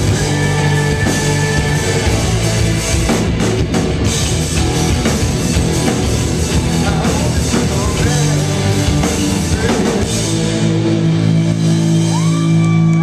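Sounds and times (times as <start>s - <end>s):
bass guitar: 0.0s - 13.0s
drum kit: 0.0s - 13.0s
electric guitar: 0.0s - 13.0s.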